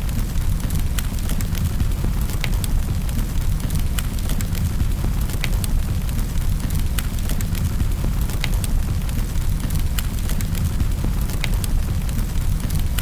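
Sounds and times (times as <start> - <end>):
low rumble of fire: 0.0 - 13.0
wood fire snapping and popping: 0.0 - 13.0.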